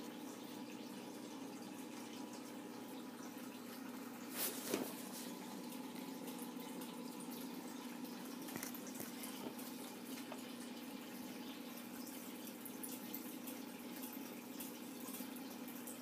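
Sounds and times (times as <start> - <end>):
aquarium water trickling: 0.0 - 16.0
tank filter humming: 0.0 - 16.0.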